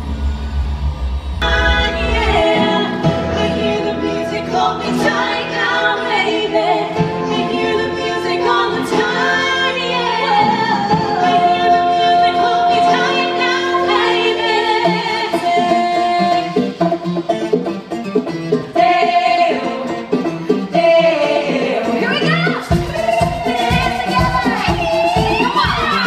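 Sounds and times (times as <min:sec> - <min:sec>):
women singing with stage music: 0:01.4 - 0:17.0, 0:18.6 - 0:26.0.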